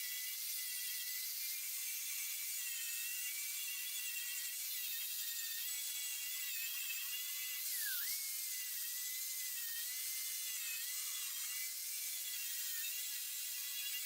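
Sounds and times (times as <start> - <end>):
grinder whining on steel: 0.0 - 14.0.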